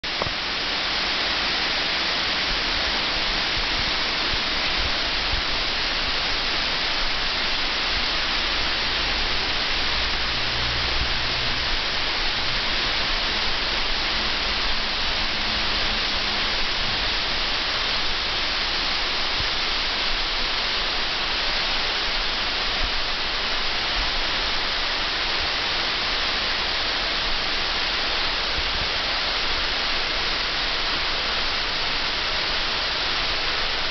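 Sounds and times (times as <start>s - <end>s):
water cascading into pool: 0.0s - 33.9s.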